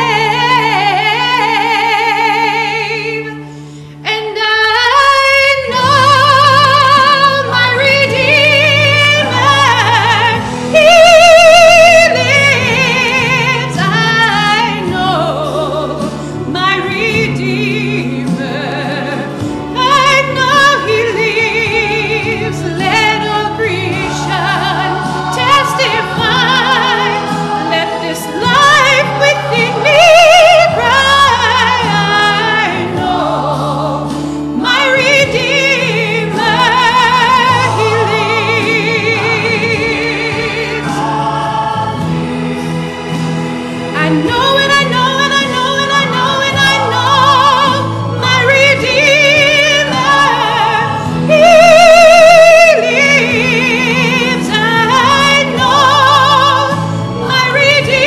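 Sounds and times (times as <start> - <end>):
woman singing gospel: 0.0 - 3.4, 4.0 - 42.0, 44.0 - 58.0
instrumental accompaniment: 0.0 - 58.0.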